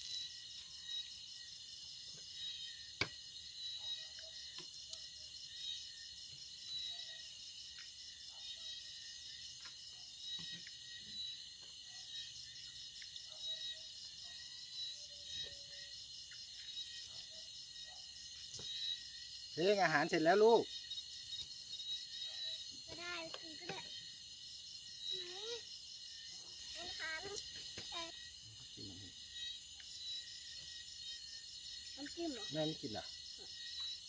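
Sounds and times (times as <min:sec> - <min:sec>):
insects chirping: 0:00.0 - 0:34.0.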